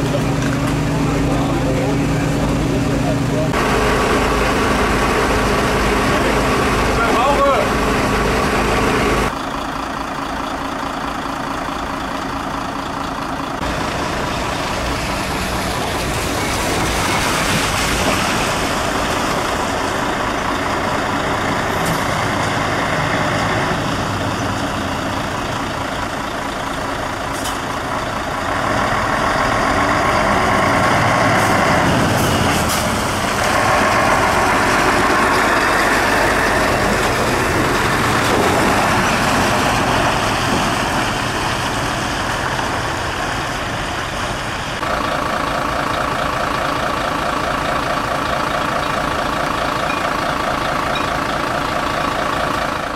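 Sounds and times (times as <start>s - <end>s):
truck passing close by: 0.0s - 9.6s, 13.2s - 52.9s
fire truck diesel engines: 0.0s - 52.9s.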